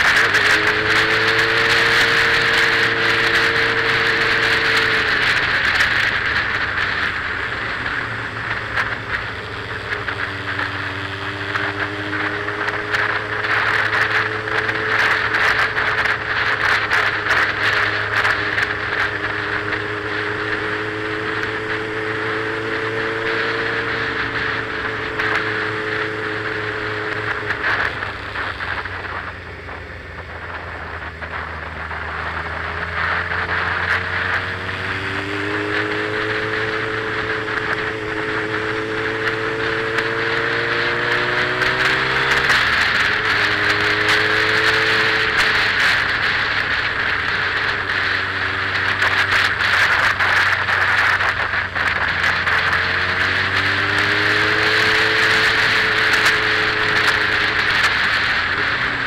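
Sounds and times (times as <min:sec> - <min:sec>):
motorcycle engine: 0:00.0 - 0:59.0
wind rush and buffeting: 0:00.0 - 0:59.0.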